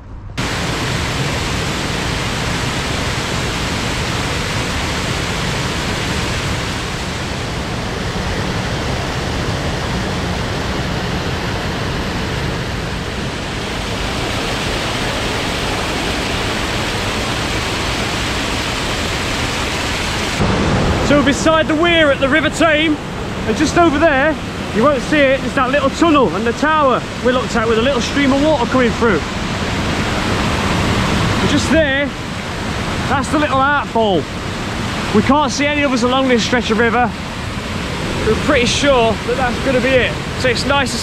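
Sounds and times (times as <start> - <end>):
river water rushing over rocks: 0.4 - 41.0.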